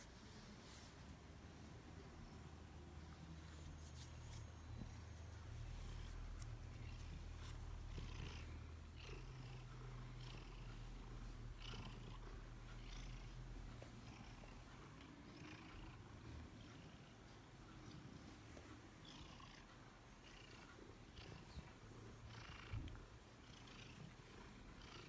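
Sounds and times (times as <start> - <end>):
cat purring: 1.6 - 25.0.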